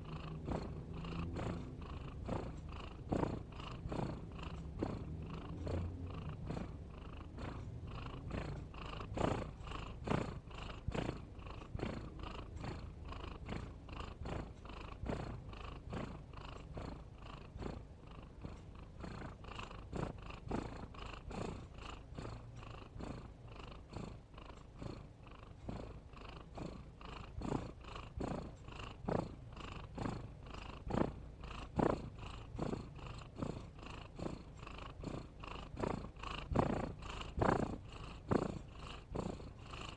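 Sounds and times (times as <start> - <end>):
cat snoring: 0.0 - 39.9.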